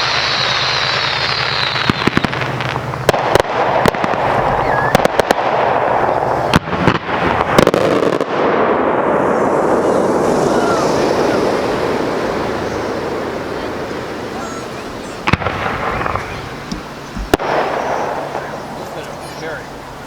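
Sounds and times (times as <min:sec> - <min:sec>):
continuous fireworks din: 0:00.0 - 0:20.0
fireworks bangs: 0:00.0 - 0:20.0.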